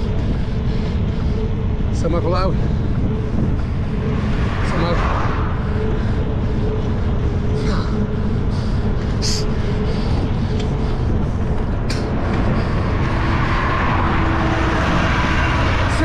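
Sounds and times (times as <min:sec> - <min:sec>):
road noise: 0:00.0 - 0:16.0
wind rumbling on microphone: 0:00.0 - 0:16.0.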